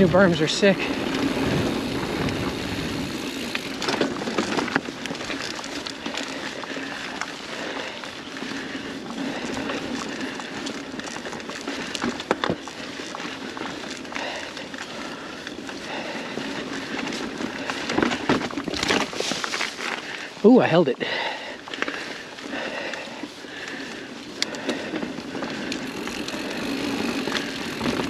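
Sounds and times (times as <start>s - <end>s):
bike knocking and rattling: 0.0s - 28.0s
bike tyres and wind rushing: 0.0s - 28.0s.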